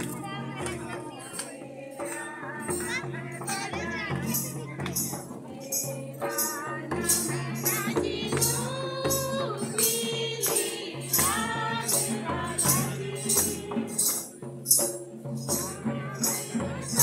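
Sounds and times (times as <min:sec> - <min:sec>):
high percussion beat: 0:00.0 - 0:17.0.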